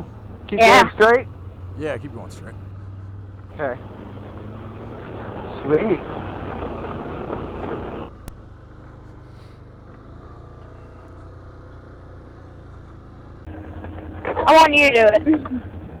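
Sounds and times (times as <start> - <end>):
off-road vehicle engine: 0.0 - 16.0.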